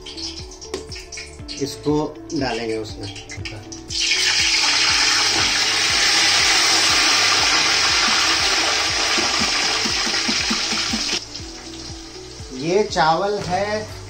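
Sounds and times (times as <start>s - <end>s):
rice sizzling in hot oil: 0.0s - 1.7s, 3.1s - 12.8s.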